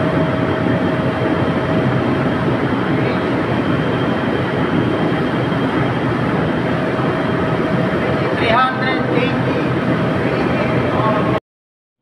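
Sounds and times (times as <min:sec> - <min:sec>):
fan motor whine: 0:00.0 - 0:11.4
ventilation fan roar: 0:00.0 - 0:11.4.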